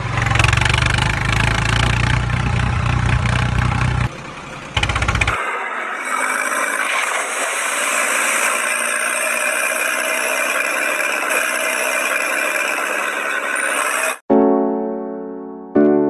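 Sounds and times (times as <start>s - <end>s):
tractor engine running: 0.0s - 14.2s.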